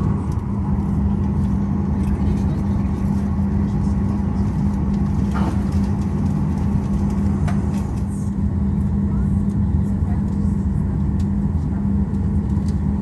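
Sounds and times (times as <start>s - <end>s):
aircraft cabin rumble and hum: 0.0s - 13.0s.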